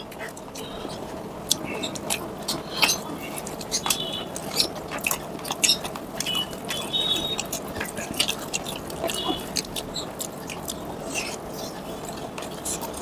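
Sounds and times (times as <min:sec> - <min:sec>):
chewing and lip smacks: 0:00.0 - 0:13.0
fingers squelching in wet food: 0:00.1 - 0:13.0.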